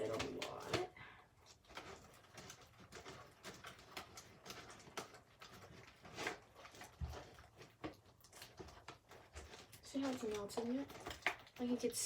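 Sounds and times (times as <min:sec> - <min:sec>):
slime squelching and clicking: 0:00.0 - 0:12.0.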